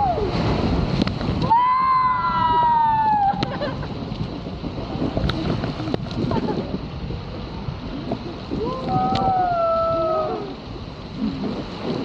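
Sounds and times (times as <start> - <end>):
water wash: 0.0 - 12.0
wind noise on microphone: 0.0 - 12.0.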